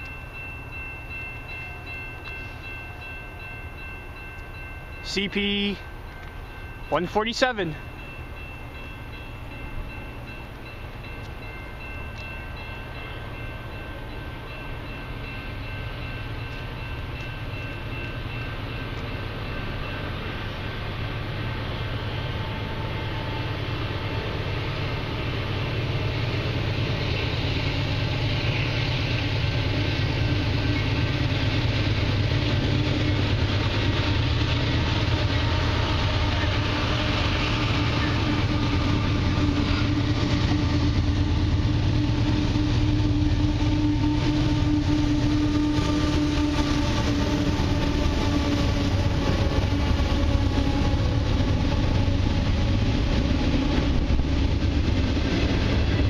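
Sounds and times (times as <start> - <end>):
diesel locomotives rumbling: 0.0 - 56.0
freight cars rolling past: 7.8 - 56.0.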